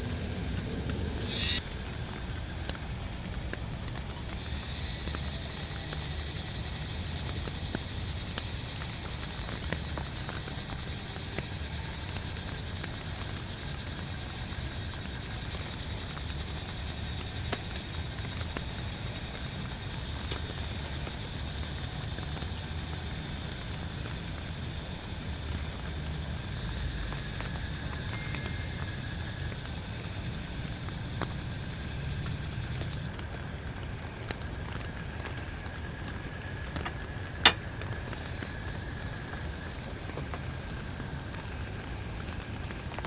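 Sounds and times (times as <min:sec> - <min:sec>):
steady high hiss: 0:00.0 - 0:43.0
steady rain: 0:00.0 - 0:43.0.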